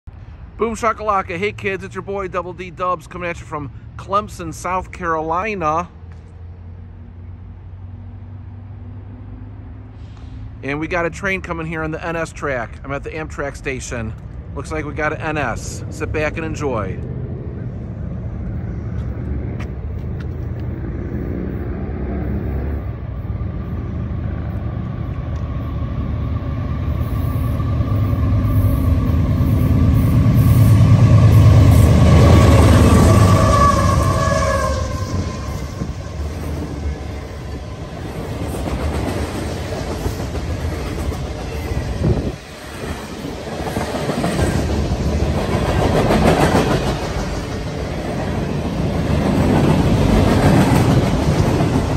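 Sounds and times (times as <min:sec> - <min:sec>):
diesel locomotive rumble: 0:00.1 - 0:51.9
freight cars rolling past: 0:00.2 - 0:51.9.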